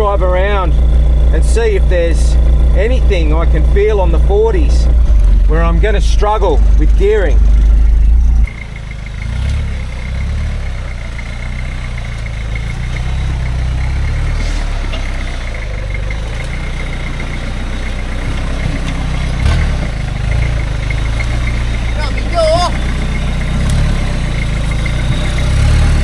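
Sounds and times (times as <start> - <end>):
diesel engine at low revs: 0.0 - 26.0
high-pitched whine: 0.0 - 26.0.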